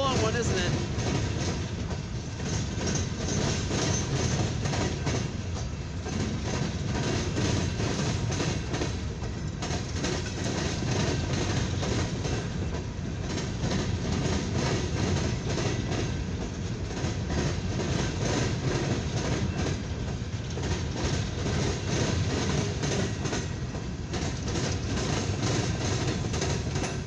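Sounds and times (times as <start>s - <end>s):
train wheels rumbling on rail: 0.0s - 27.0s
wheels clicking over rail joints: 0.0s - 27.0s.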